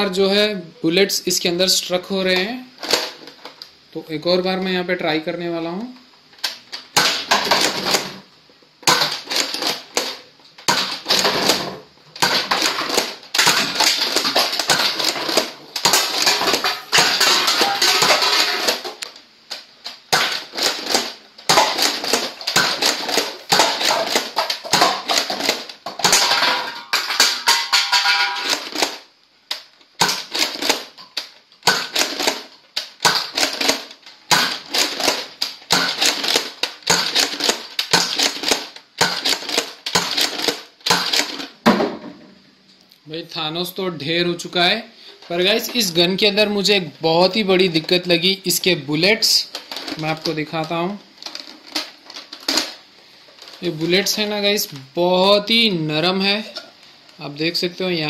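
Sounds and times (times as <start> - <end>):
plastic toys clattering: 2.3 - 3.6, 6.3 - 41.8, 45.0 - 54.9.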